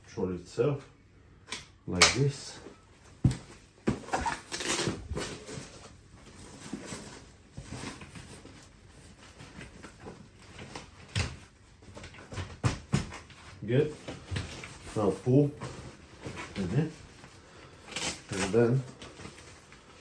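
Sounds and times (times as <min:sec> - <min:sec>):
fabric cover rustling: 0:02.8 - 0:20.0.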